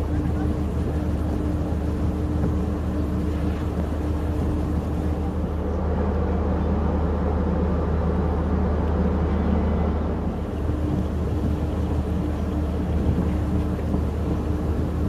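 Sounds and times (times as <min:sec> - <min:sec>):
higher steady hum: 0:00.0 - 0:15.0
ship machinery low drone: 0:00.0 - 0:15.0.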